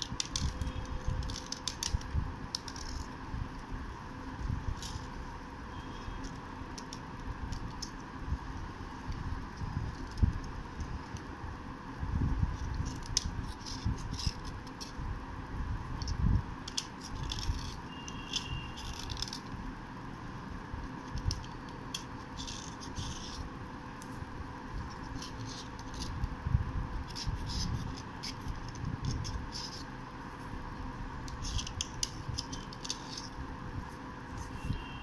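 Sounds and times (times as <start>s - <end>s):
crackles and clicks of flakes: 0.0s - 3.7s, 4.4s - 11.3s, 12.2s - 15.0s, 15.9s - 19.7s, 20.8s - 30.6s, 31.2s - 34.9s
faint steady hum: 0.0s - 35.0s.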